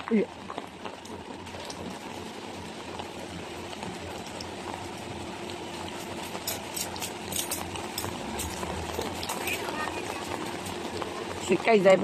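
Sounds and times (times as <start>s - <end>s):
rain hissing on street and awnings: 0.0s - 12.0s.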